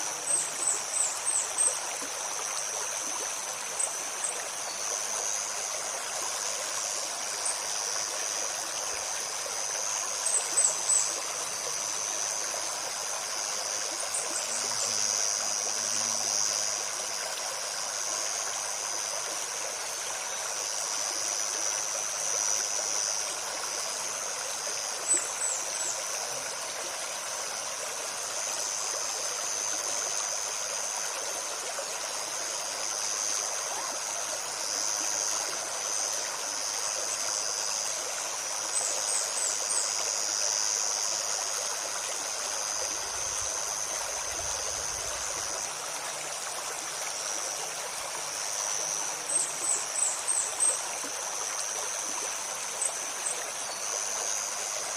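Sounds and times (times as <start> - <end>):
river babbling: 0.0 - 54.9.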